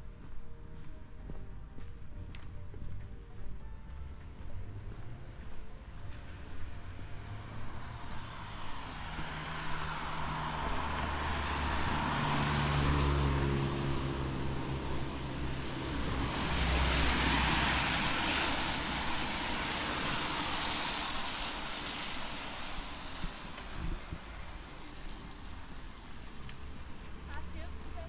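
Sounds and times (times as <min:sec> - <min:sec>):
cars passing on wet road: 0:01.9 - 0:28.0.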